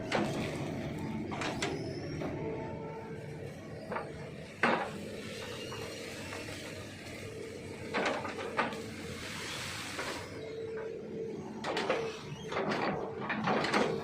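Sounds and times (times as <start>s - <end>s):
excavator engine and hydraulics: 0.0s - 14.0s.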